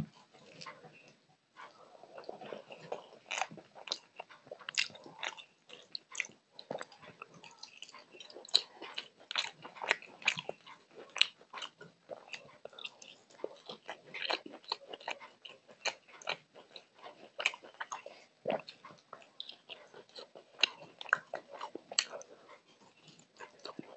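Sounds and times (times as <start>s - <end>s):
chewing and biting: 0.1s - 23.9s.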